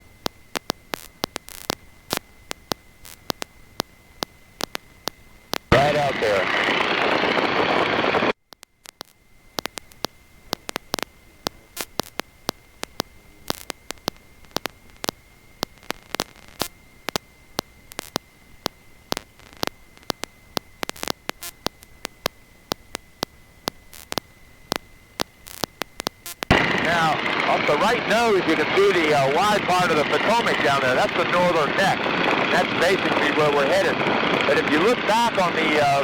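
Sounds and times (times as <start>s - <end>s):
high-pitched whine: 0.0s - 8.4s, 9.0s - 36.0s
static crackles and clicks: 0.0s - 36.0s.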